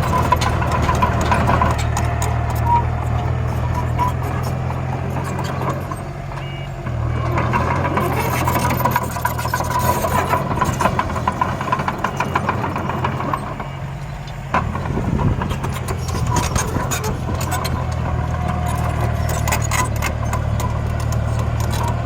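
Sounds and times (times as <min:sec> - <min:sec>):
small engine drone with ticking rattle: 0:00.0 - 0:22.0.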